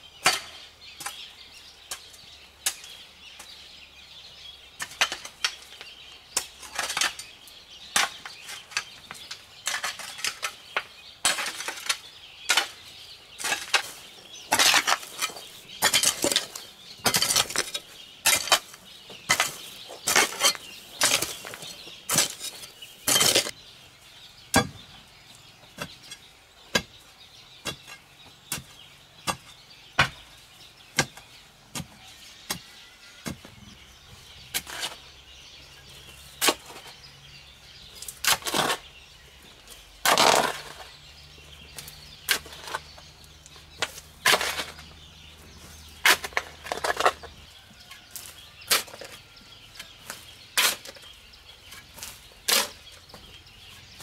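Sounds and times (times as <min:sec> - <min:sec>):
hoe chopping stony soil: 0:00.2 - 0:01.3, 0:04.8 - 0:23.6, 0:24.5 - 0:24.8, 0:25.7 - 0:27.0, 0:27.6 - 0:30.3, 0:30.9 - 0:35.0, 0:36.0 - 0:37.0, 0:37.8 - 0:38.9, 0:39.7 - 0:41.0, 0:41.6 - 0:54.0.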